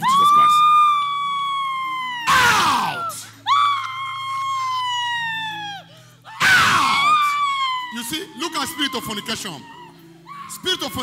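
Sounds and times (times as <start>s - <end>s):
woman screaming: 0.0s - 11.0s.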